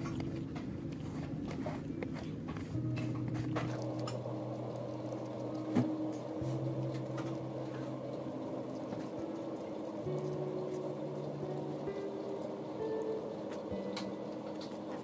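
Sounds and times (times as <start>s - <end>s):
soft slow background music: 0.0s - 15.0s.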